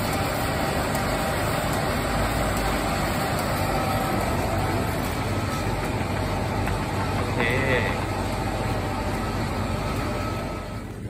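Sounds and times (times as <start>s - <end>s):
refrigeration machinery hum: 0.0s - 11.0s.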